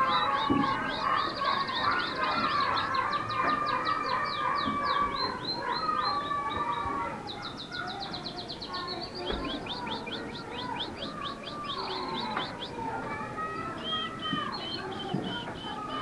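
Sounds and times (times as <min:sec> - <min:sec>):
canary trilling: 0:00.0 - 0:16.0.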